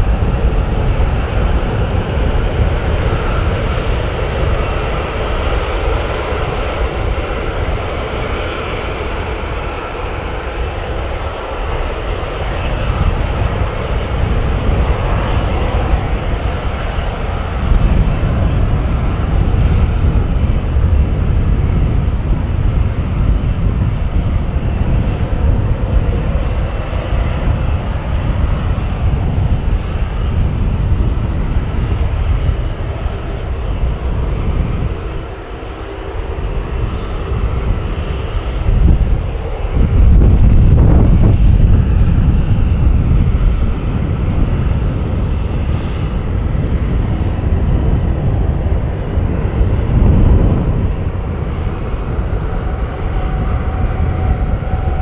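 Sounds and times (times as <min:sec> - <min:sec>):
jet engine roar at takeoff: 0:00.0 - 0:55.0.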